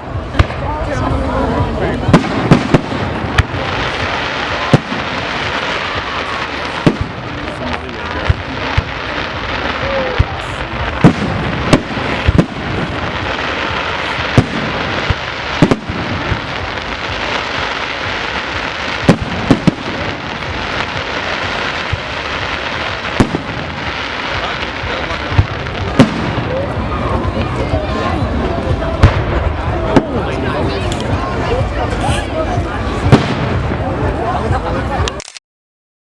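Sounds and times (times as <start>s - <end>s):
fireworks exploding bangs: 0.0s - 34.2s
fireworks crackle and hiss: 0.0s - 35.2s.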